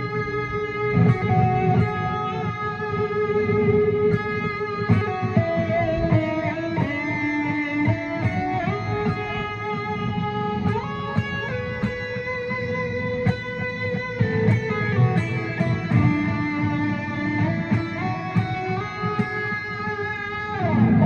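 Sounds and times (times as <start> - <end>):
electric guitar with delay: 0.0 - 21.0.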